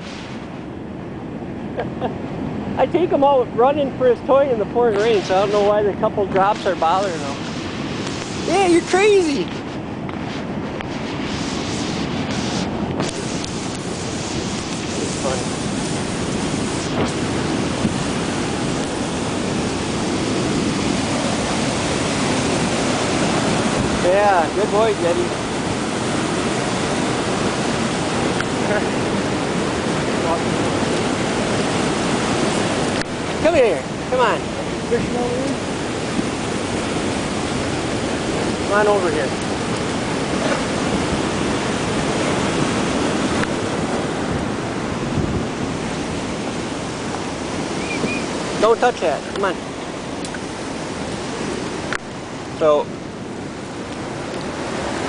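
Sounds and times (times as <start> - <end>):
water rushing through dam gates: 0.0 - 55.0
wind buffeting microphone: 0.0 - 55.0.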